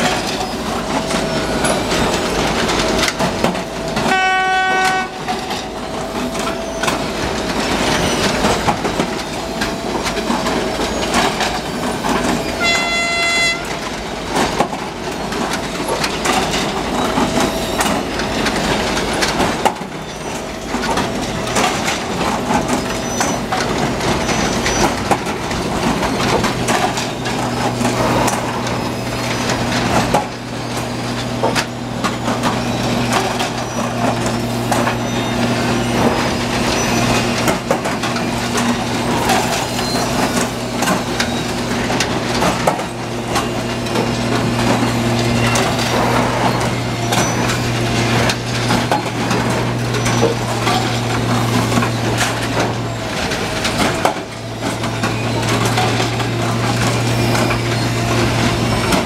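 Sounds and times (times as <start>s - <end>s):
clatter of knocks and crunches: 0.0s - 59.0s
diesel engine humming: 0.0s - 59.0s.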